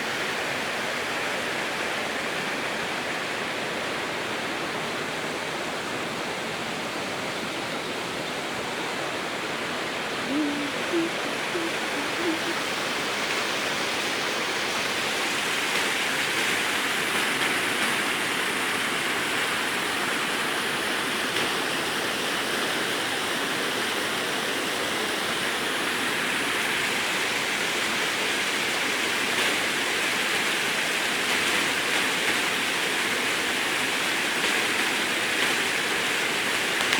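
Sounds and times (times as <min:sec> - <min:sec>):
water rushing over rocks: 0:00.0 - 0:36.9.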